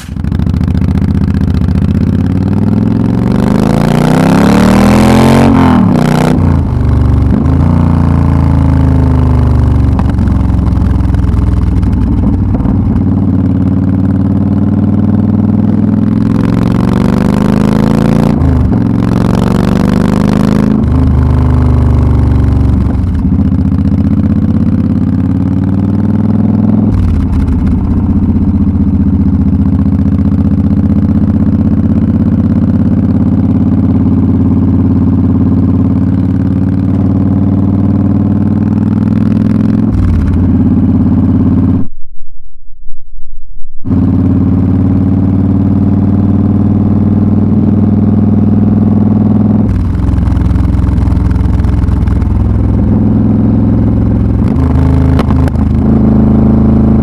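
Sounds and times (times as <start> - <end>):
motorcycle engine exhaust: 0.0 - 42.2, 43.8 - 57.0.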